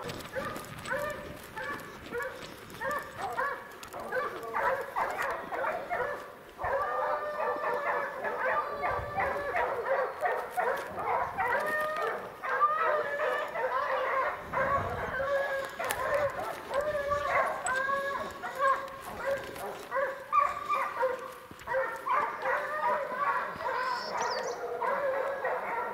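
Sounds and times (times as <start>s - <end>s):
hounds baying: 0.0s - 25.9s.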